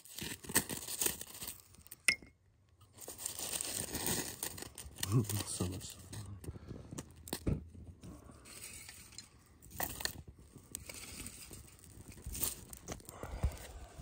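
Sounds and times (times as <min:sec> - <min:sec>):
dry twigs rustling and crunching: 0:00.0 - 0:02.1, 0:02.8 - 0:14.0.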